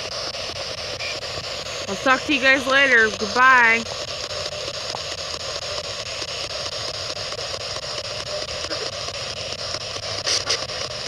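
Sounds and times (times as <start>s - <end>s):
radio static hiss: 0.0s - 11.0s
rapid scanning clicks: 0.0s - 11.0s.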